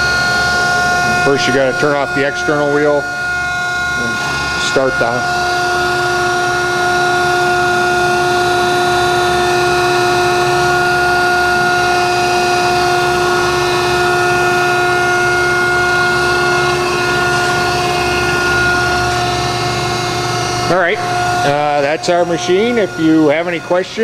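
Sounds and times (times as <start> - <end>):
grinder spindle whining: 0.0 - 24.0.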